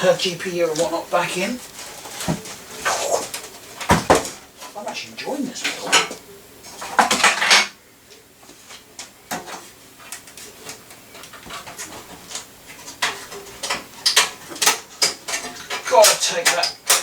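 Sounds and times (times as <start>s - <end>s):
hardware rustling clatter: 0.0s - 7.8s, 8.4s - 17.0s.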